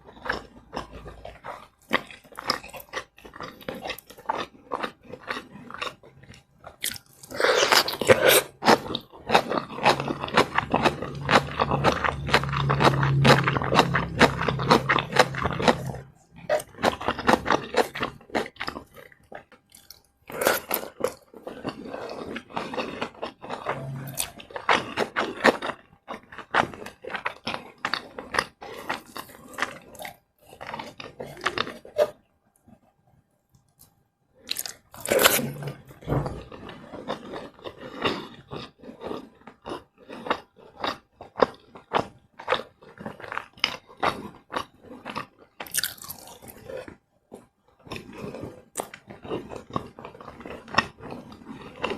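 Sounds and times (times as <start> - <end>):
chewing and crunching food: 0.0 - 51.9.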